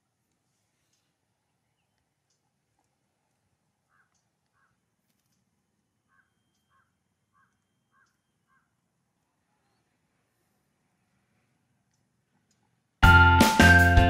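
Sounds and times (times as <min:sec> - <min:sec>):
faint bird calls: 0:00.0 - 0:12.9.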